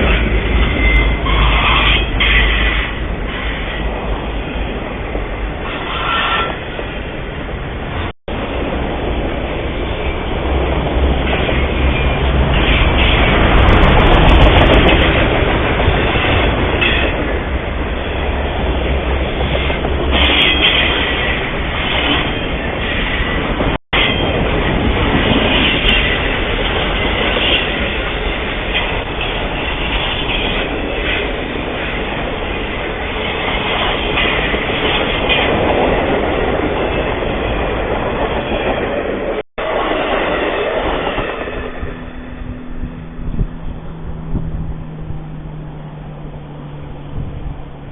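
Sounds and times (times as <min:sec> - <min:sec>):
train wheels on rails: 0:00.0 - 0:47.9.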